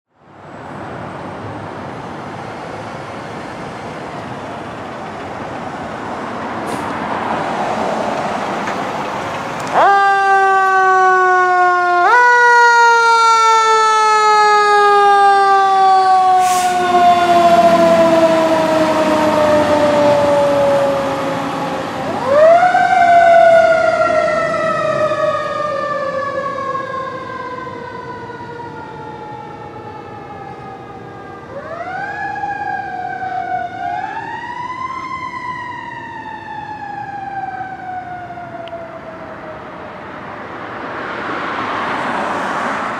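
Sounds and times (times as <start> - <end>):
fire engine siren wailing: 0.3 - 42.9.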